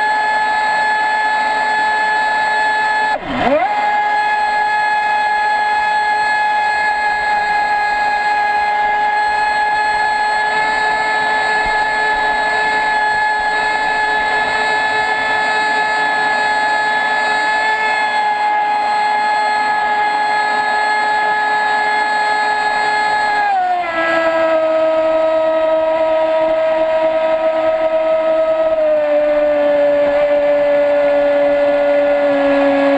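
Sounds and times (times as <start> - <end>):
electric motor high whine: 0.0 - 32.9.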